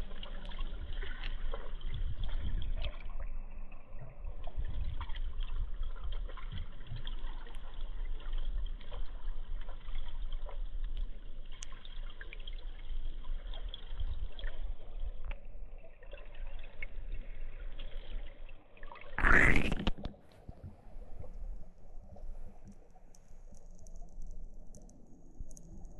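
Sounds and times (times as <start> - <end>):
muffled underwater river gurgling: 0.0 - 25.9.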